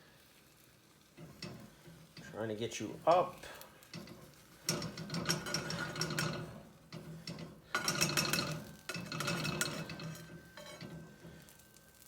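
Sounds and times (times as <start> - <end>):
spatula scraping a frying pan: 0.4 - 2.4, 3.0 - 12.0.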